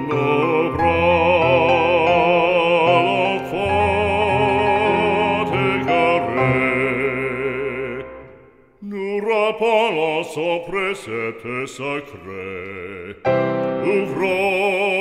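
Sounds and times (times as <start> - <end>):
religious song with vibrato singing: 0.0 - 15.0.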